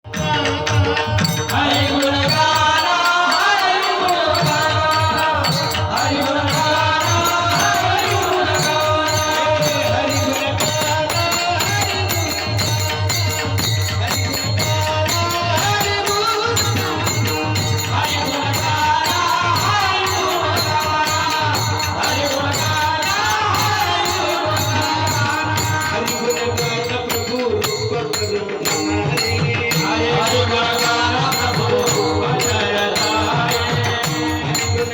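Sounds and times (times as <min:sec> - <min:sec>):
fast jingling rhythmic percussion: 0:00.0 - 0:34.9
person singing devotional melody: 0:00.0 - 0:34.9.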